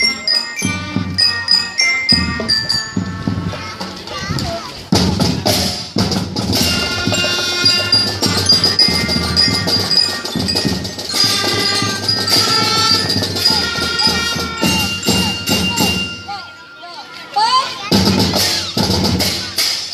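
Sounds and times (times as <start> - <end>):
bell-like mallet percussion: 0.0 - 19.9
marching band playing: 0.0 - 19.9.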